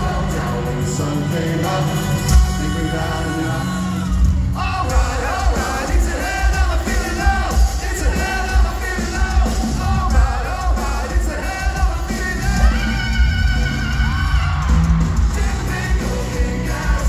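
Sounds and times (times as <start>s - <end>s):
man singing: 0.0s - 14.7s, 15.3s - 17.0s
live pop-rock band: 0.0s - 17.0s.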